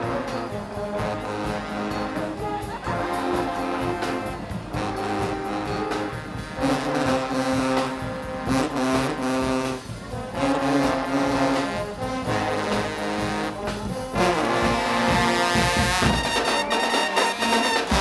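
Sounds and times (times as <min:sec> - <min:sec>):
brass band playing: 0:00.0 - 0:18.0
drums: 0:00.0 - 0:18.0.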